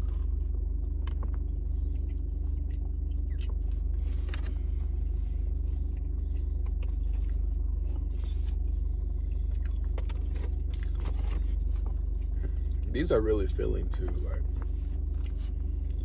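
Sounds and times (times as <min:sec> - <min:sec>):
person chewing crunchy food: 0:00.0 - 0:12.9
idling car engine rumble: 0:00.0 - 0:16.0.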